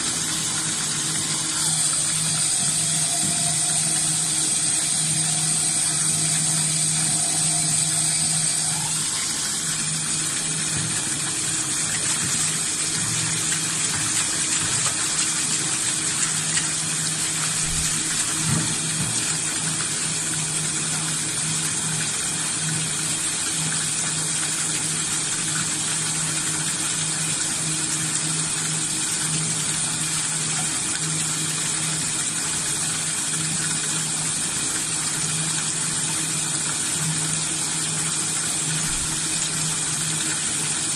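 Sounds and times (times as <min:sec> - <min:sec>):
tap water pouring and splashing: 0:00.0 - 0:40.9.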